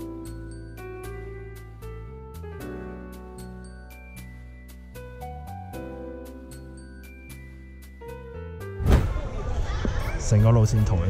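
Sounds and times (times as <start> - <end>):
background music with steady beat: 0.0 - 9.0.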